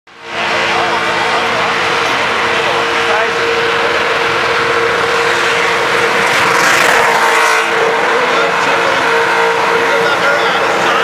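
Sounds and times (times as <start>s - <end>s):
car engine at high revs: 0.1s - 11.0s.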